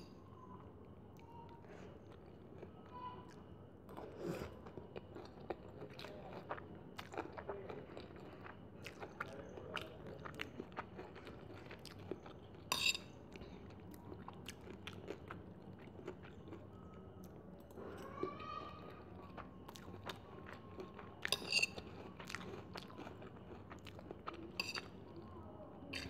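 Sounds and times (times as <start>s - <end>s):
chewing noodles: 1.1s - 26.0s.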